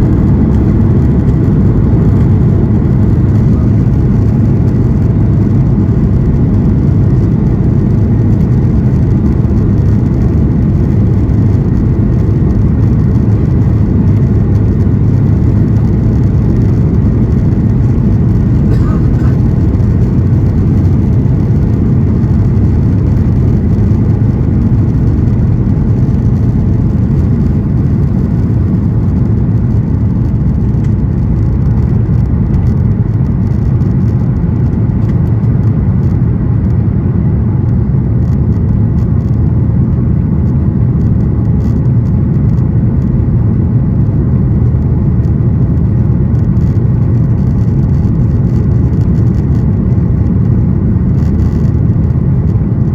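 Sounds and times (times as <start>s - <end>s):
jet engine cabin rumble: 0.0s - 52.9s.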